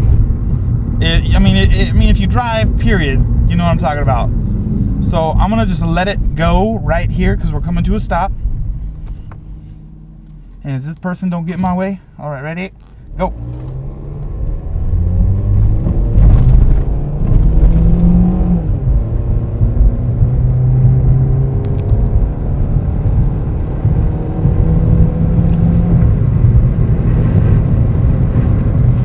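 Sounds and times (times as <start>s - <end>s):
car engine accelerating: 0.0s - 29.0s
road rumble: 0.0s - 29.0s.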